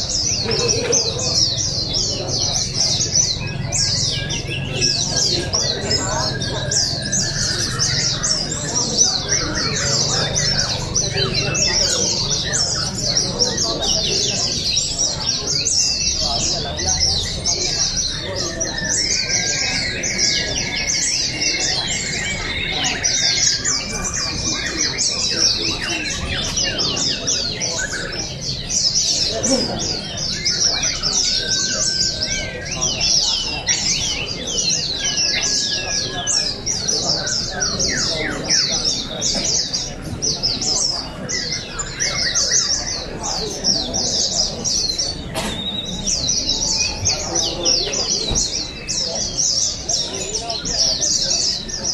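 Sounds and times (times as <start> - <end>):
birds chirping and trilling: 0.0 - 51.9.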